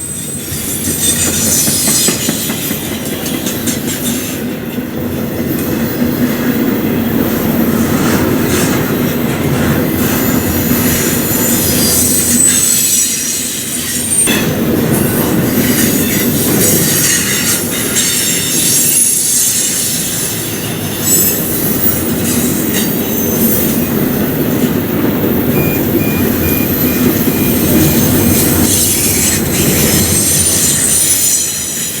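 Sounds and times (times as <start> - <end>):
wheels squealing against rails: 0.0 - 32.0.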